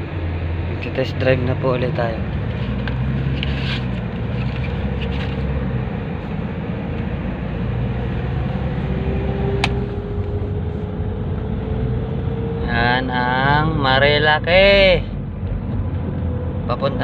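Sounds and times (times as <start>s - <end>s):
van engine and road noise: 0.0s - 17.0s.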